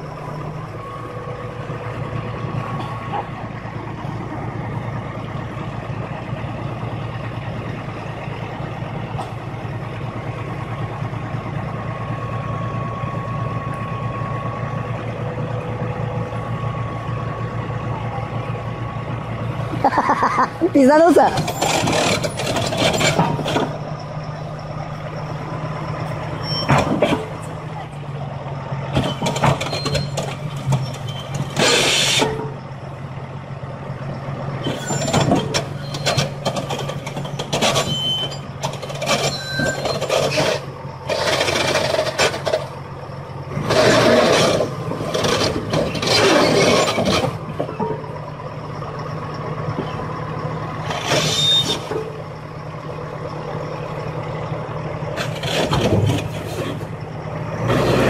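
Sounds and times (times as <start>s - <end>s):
truck diesel engines humming: 0.0s - 58.0s.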